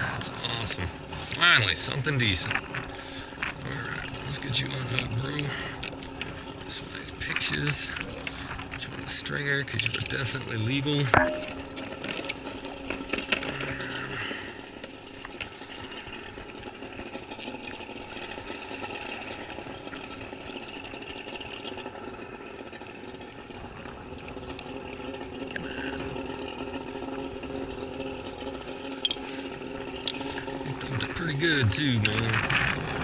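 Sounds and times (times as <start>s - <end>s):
low mechanical hum: 0.0s - 33.0s
water lapping at kayak hull: 0.0s - 33.0s.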